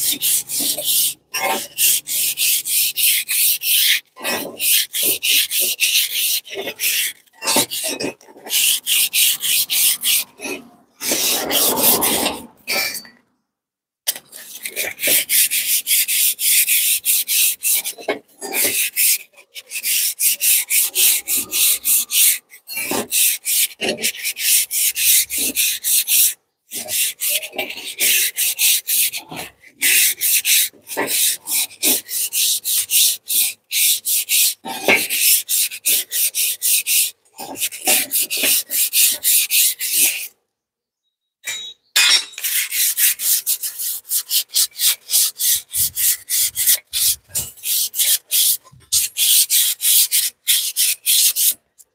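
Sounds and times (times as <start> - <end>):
sandpaper rasping on metal spring: 0.0 - 13.1, 14.1 - 40.4, 42.0 - 51.7.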